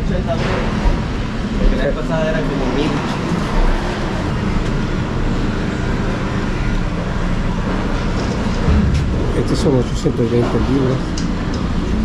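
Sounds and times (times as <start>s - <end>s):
machinery and vehicles running: 0.0s - 12.0s.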